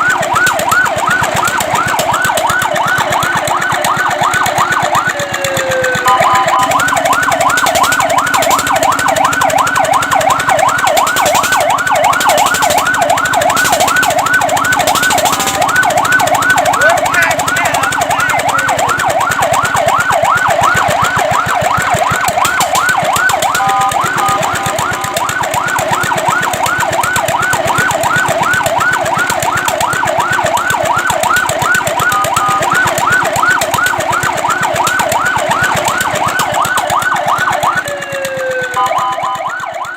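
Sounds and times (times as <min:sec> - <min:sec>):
fire truck siren yelping: 0:00.0 - 0:39.9.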